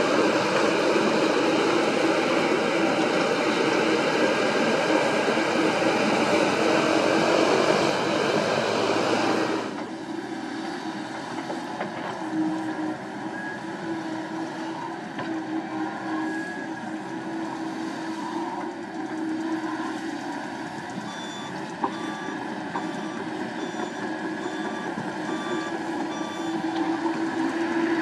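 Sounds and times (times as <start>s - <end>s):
excavator diesel engine running: 0.0s - 28.0s
excavator digging soil: 0.0s - 28.0s.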